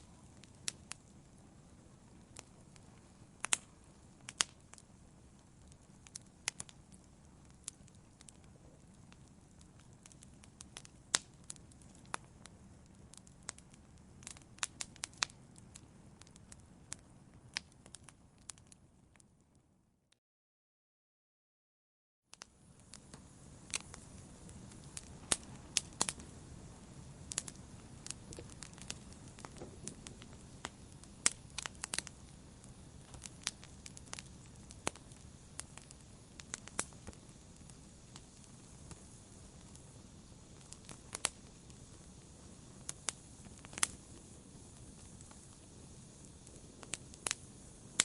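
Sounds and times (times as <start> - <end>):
wood fire crackling: 0.0 - 19.5, 22.3 - 48.0.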